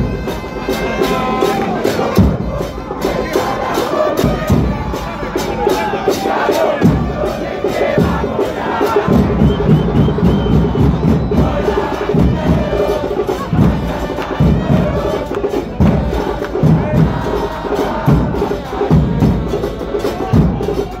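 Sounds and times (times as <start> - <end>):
bass drums beating: 0.0 - 21.0
crowd singing a chant: 0.0 - 21.0.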